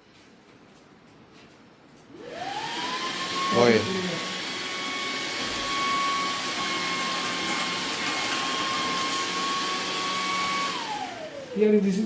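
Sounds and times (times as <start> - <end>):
vacuum blower motor whining: 2.2 - 12.0.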